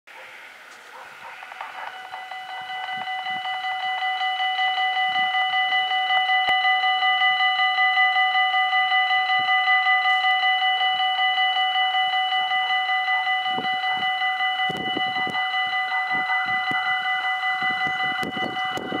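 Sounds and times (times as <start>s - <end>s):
level crossing warning bells ringing: 0.1s - 19.0s.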